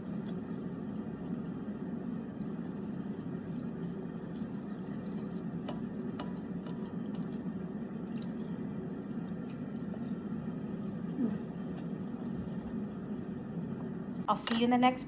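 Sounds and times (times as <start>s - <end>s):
person chewing: 0.0s - 13.4s
steady low hum: 0.0s - 15.0s.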